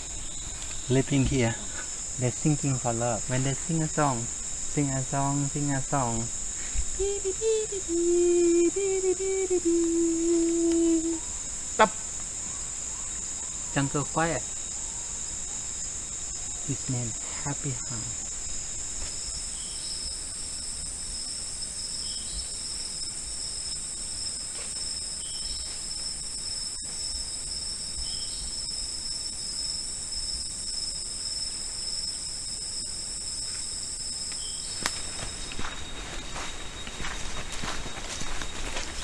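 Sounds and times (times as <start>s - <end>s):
cicadas buzzing: 0.0s - 39.0s.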